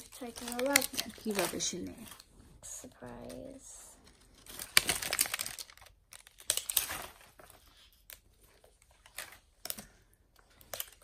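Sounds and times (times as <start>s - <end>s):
wrapper crinkling: 0.0s - 2.3s, 3.2s - 11.0s.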